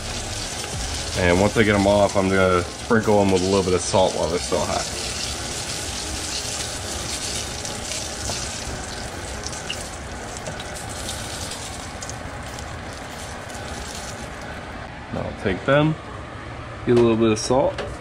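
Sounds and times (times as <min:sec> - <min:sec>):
fish frying in hot oil: 0:00.0 - 0:14.7.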